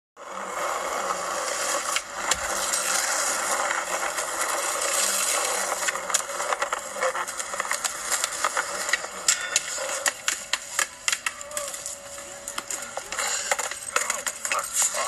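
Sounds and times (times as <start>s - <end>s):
skateboard wheels rolling on pavement: 0.2s - 15.0s
skateboard clicks and clacks: 0.3s - 15.0s.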